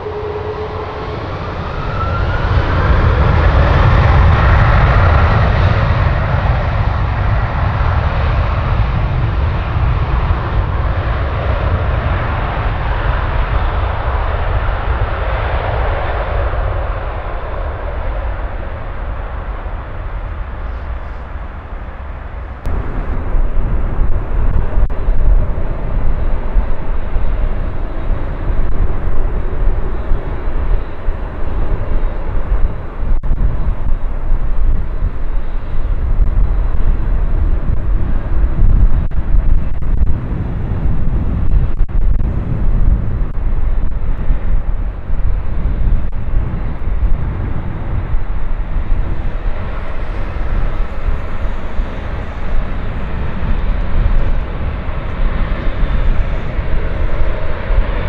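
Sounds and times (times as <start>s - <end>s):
jet engine noise: 0.0s - 58.0s
jet engines rumbling on runway: 0.0s - 58.0s
wind buffeting microphone: 0.0s - 58.0s.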